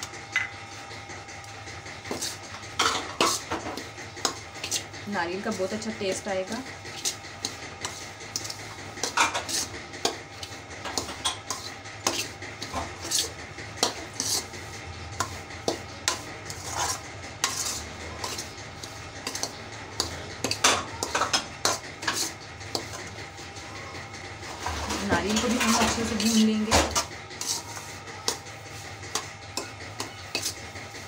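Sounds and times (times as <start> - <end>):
metal spoon scraping metal pan: 2.1 - 31.0.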